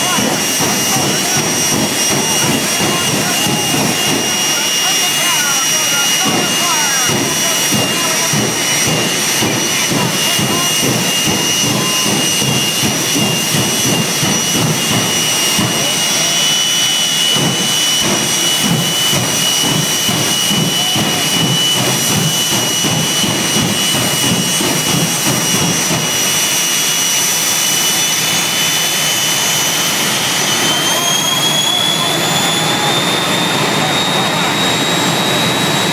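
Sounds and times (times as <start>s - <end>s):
jet engine roar with whine: 0.0s - 35.9s.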